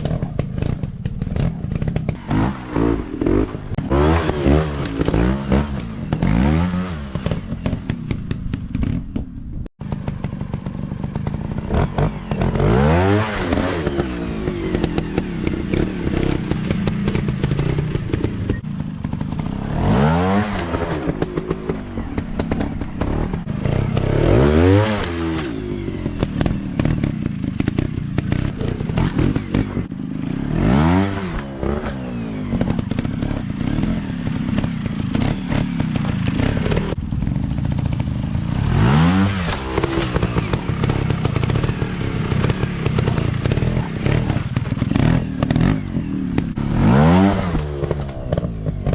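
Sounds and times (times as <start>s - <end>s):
dirt bike engines revving: 0.0s - 9.0s, 9.8s - 48.9s.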